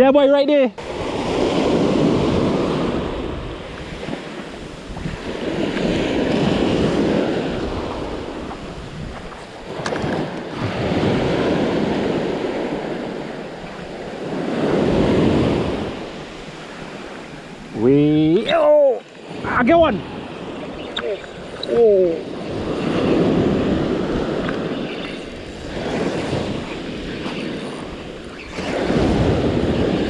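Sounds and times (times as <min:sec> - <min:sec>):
small waves breaking on beach: 0:00.1 - 0:30.0
wind on microphone: 0:00.8 - 0:30.0.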